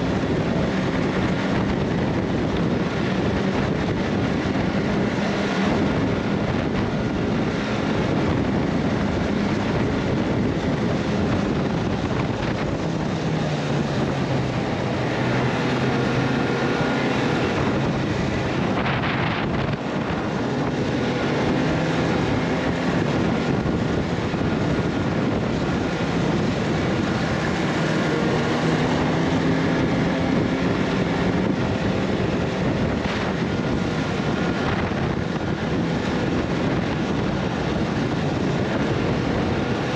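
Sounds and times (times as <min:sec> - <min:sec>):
vehicle engine running: 0:00.0 - 0:39.9
wind noise on microphone: 0:00.0 - 0:39.9.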